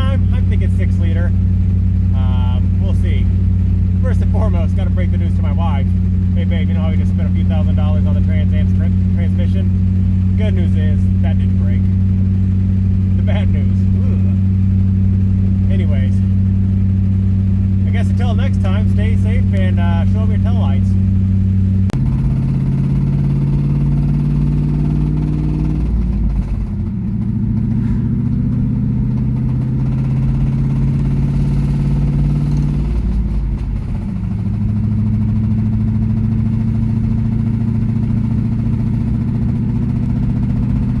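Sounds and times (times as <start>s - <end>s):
engine running with rod knock: 0.0s - 41.0s.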